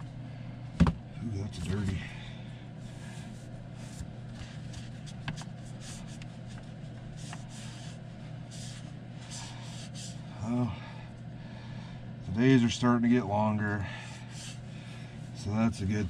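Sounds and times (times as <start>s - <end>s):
space heater humming: 0.0s - 16.0s.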